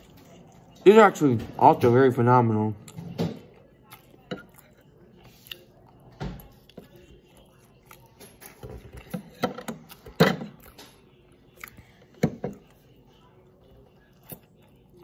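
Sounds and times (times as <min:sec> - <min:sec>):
person chewing: 0:00.0 - 0:00.8, 0:02.8 - 0:15.0.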